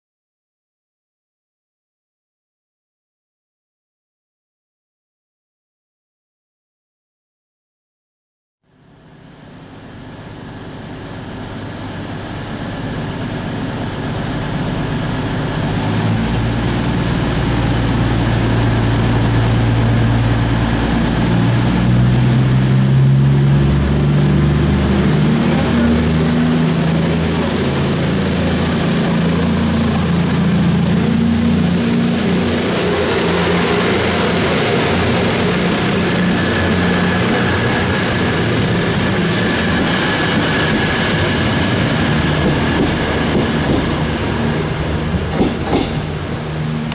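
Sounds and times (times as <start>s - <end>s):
diesel train engines humming: 8.7s - 46.9s.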